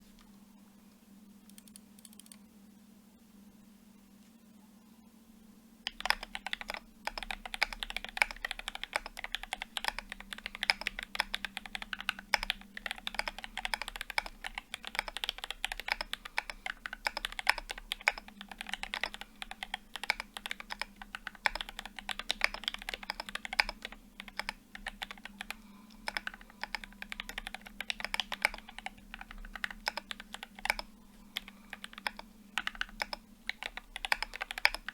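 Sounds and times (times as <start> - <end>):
fast mechanical keyboard typing: 5.9 - 34.9.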